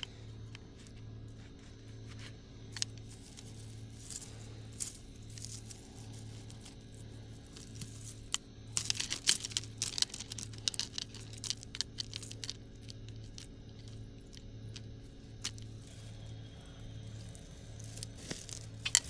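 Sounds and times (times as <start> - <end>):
leaves and stems crackling: 0.0 - 19.0
steady low hum: 0.0 - 19.0.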